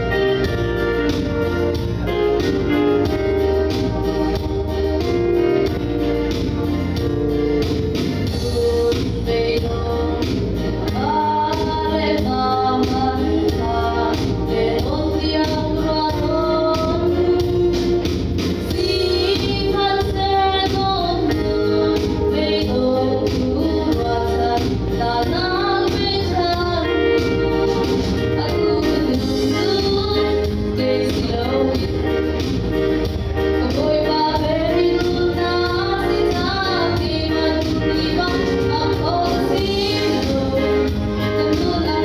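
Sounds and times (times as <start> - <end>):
woman singing gospel song: 0.0 - 7.1, 8.2 - 42.0
instrumental backing with beat: 0.0 - 42.0.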